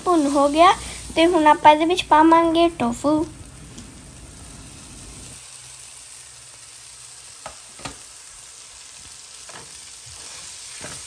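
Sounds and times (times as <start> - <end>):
tofu sizzling in hot oil: 0.0 - 11.0.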